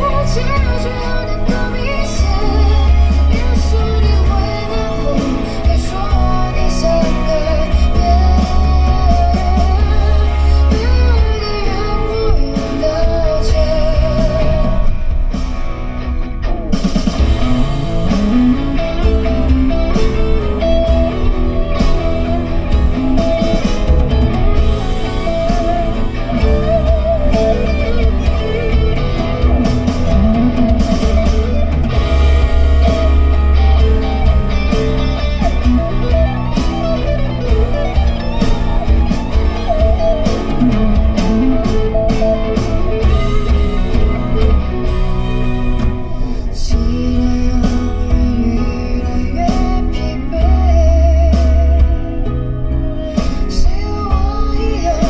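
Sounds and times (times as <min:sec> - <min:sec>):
rock song with guitars and drums: 0:00.0 - 0:55.0.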